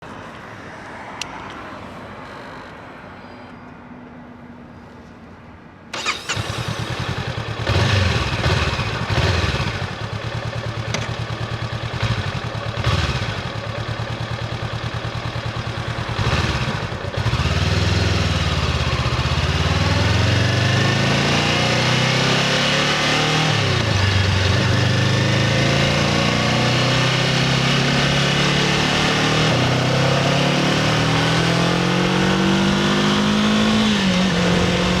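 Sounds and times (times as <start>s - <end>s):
motorcycle engine revving: 6.0s - 35.0s.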